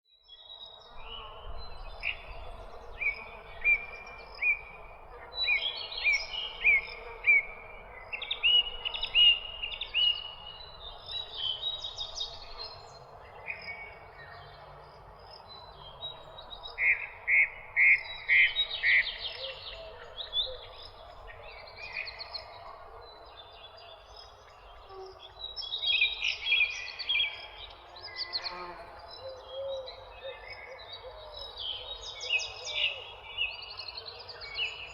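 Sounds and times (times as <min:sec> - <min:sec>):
songbirds chirping and singing: 0:00.2 - 0:34.9.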